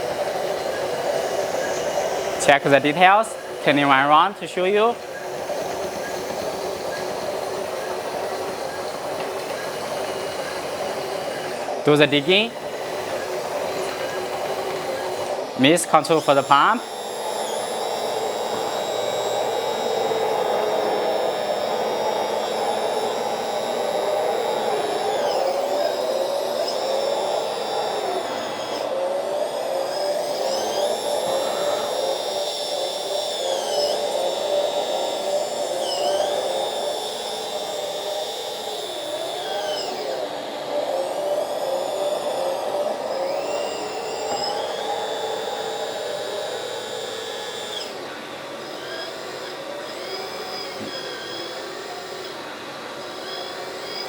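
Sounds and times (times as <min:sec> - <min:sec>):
hydraulic pump whining: 0:00.0 - 0:54.0.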